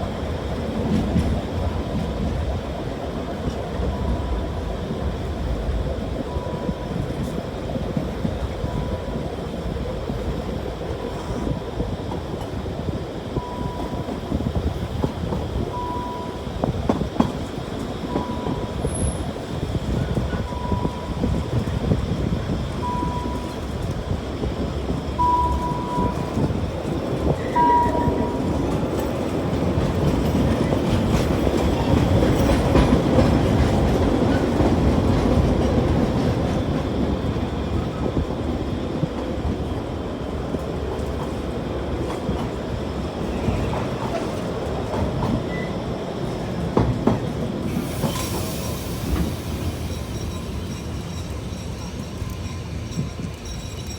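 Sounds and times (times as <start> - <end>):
steam train rumbling clatter: 0.0 - 53.9.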